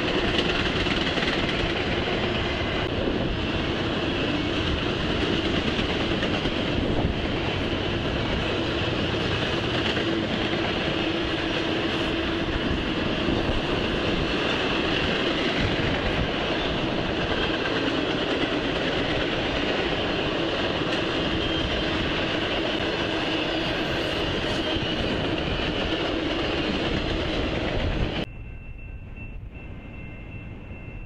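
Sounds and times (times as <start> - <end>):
freight train wheels clattering: 0.0 - 28.3.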